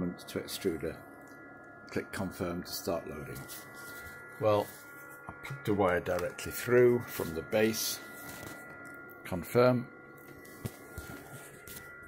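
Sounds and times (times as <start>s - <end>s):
high-pitched printer whine: 0.0s - 12.0s.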